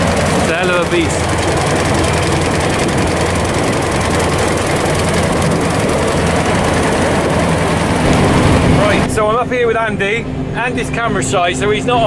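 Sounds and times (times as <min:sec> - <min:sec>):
harvester engine drone: 0:00.0 - 0:11.3.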